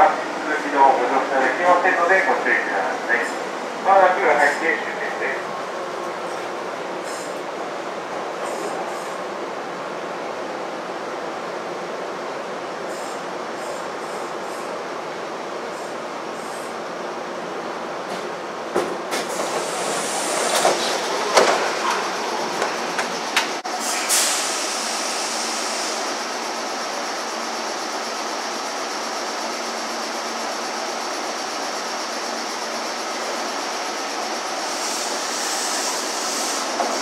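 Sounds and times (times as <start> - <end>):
standing train hum: 0.0 - 37.0.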